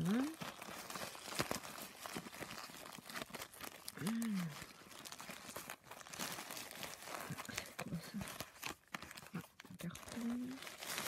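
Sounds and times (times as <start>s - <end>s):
plastic envelope crinkling: 0.0s - 11.0s.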